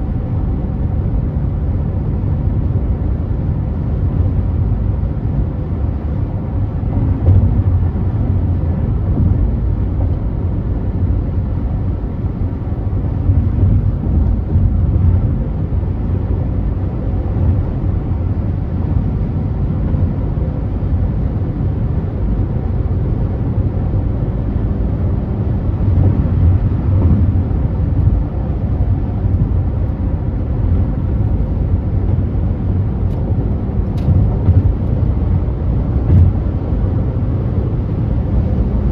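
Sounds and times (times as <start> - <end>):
car driving at speed: 0.0 - 38.9.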